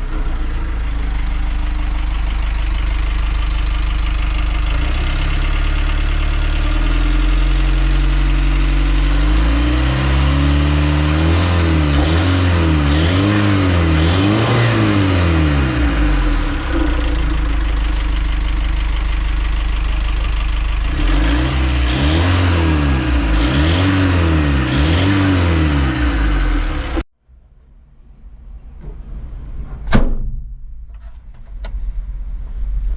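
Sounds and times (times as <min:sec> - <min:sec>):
diesel engine idling and revving: 0:00.0 - 0:27.1.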